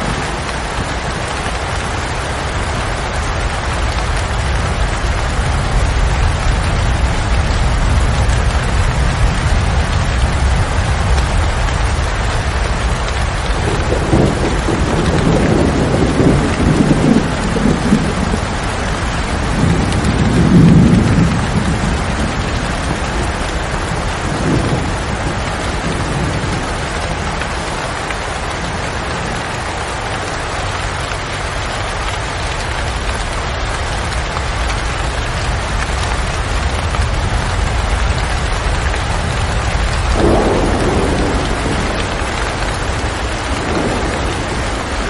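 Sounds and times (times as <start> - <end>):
rolling thunder: 0.0 - 45.0
steady rain: 0.0 - 45.0.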